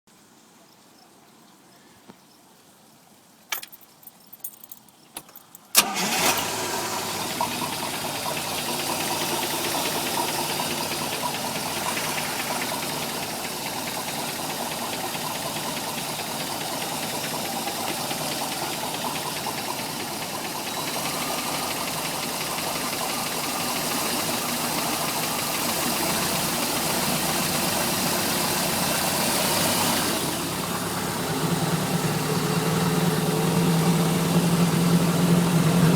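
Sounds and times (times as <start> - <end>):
boat engine idling: 5.8 - 35.9.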